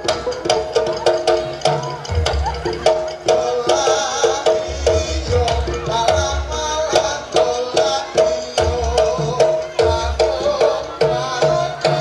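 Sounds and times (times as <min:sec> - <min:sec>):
low drum: 0:00.0 - 0:12.0.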